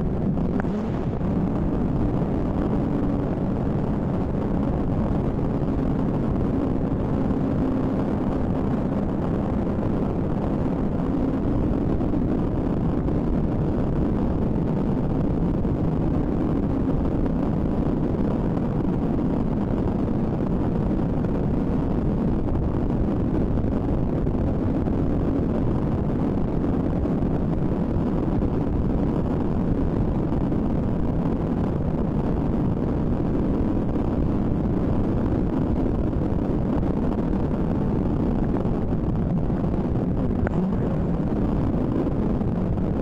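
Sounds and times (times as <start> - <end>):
road and motor noise: 0.0 - 43.0
wind rush on microphone: 0.0 - 43.0.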